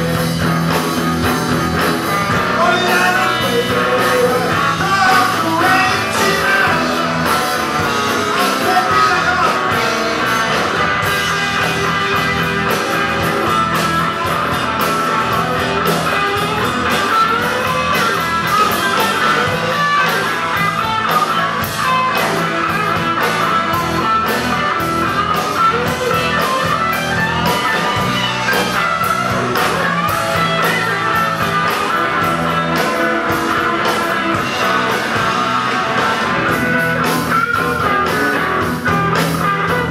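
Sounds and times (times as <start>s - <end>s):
drums: 0.0s - 39.9s
electric guitars through amplifiers: 0.0s - 39.9s
rock band playing loudly: 0.0s - 39.9s.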